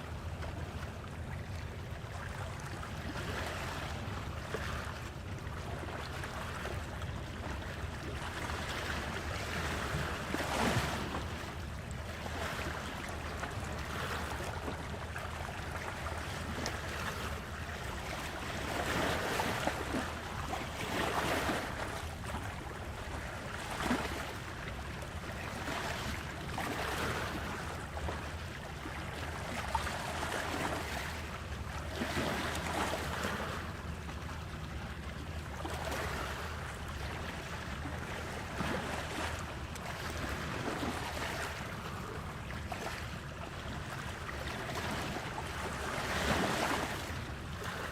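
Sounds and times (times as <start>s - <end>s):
sea water washing: 0.0s - 47.9s.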